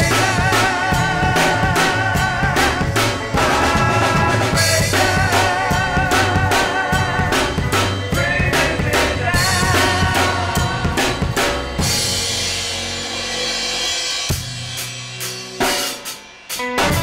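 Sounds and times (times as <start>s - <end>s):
drum kit rock beat: 0.0s - 17.0s.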